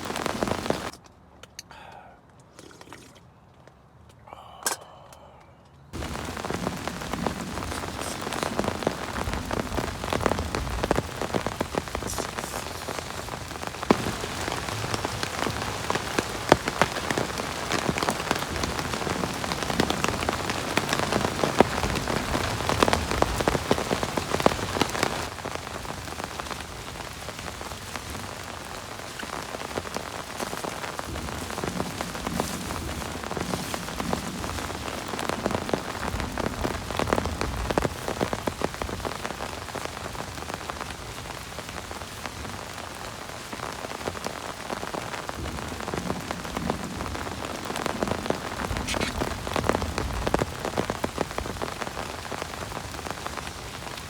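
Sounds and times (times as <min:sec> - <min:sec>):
heavy rain falling: 0:00.0 - 0:00.9, 0:06.0 - 0:54.0.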